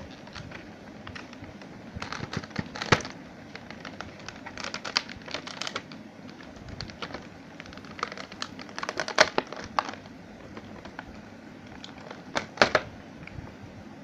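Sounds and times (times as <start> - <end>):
plastic snaps: 0.0 - 12.9
plastic toy and packaging clicks: 0.0 - 12.9.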